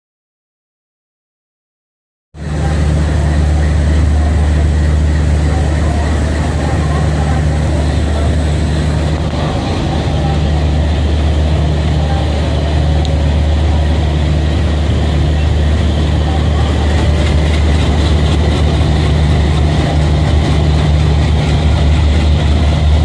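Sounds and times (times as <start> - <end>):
diesel locomotive engine running: 2.4 - 23.0.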